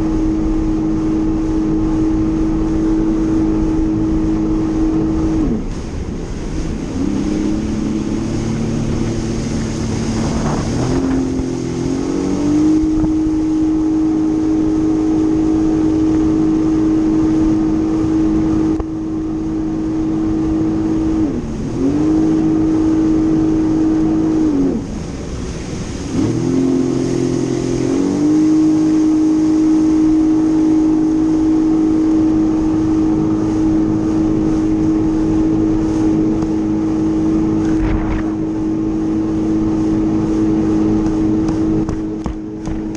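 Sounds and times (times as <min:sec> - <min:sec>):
jet ski engine revving: 0:00.0 - 0:42.9
rush of wind and water: 0:00.0 - 0:42.9.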